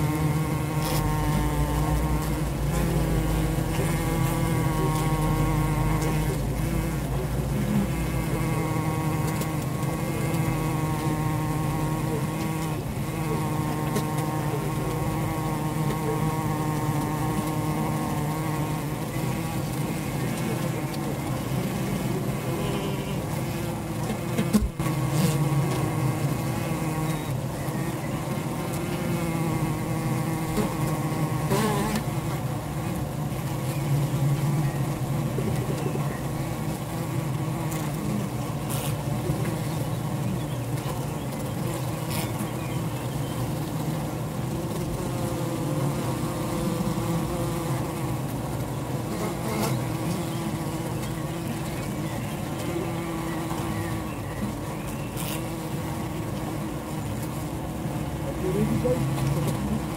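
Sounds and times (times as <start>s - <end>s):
bees droning in a hive: 0.0s - 59.9s.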